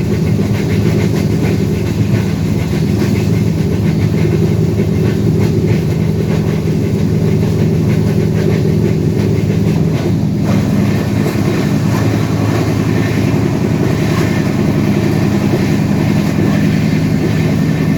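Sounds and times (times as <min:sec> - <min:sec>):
train rumbling on track: 0:00.0 - 0:17.9
wheel clicks on rails: 0:00.1 - 0:17.9.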